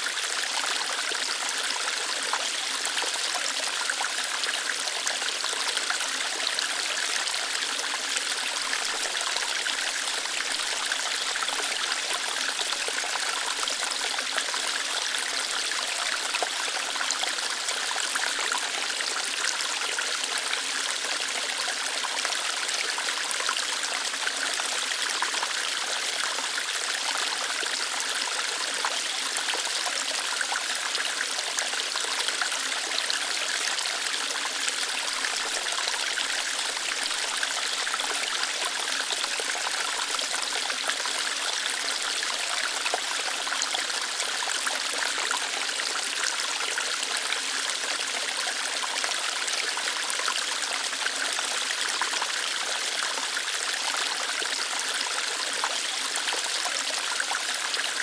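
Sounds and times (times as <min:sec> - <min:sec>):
water flowing over rocks: 0:00.0 - 0:58.0.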